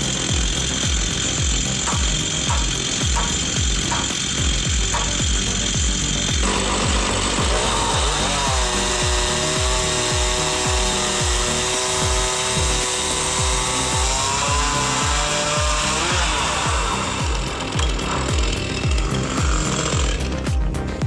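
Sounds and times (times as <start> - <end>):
music with heavy beat: 0.0 - 21.0
power saw cutting wood: 0.0 - 21.0.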